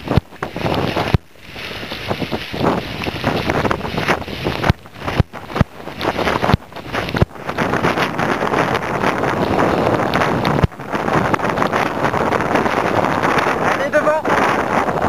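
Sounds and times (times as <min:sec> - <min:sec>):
sled knocking over snow: 0:00.0 - 0:13.8
wind buffeting microphone: 0:00.0 - 0:15.0.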